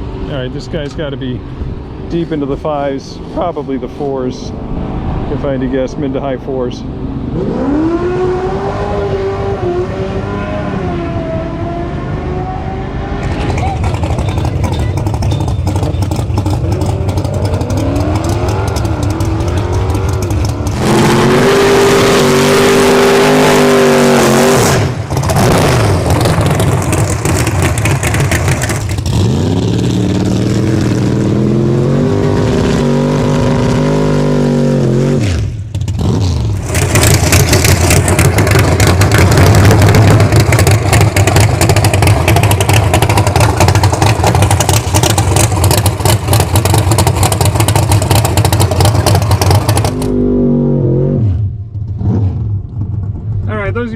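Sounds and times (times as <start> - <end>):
loud rough engine roar: 0.0 - 53.9
drag car engine revving: 4.5 - 53.9.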